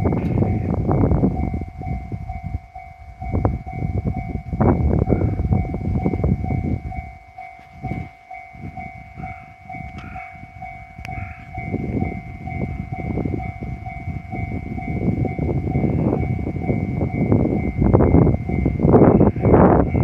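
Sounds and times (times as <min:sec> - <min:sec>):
electric train wheels clattering: 0:00.0 - 0:20.0
level-crossing warning bell: 0:00.0 - 0:20.0.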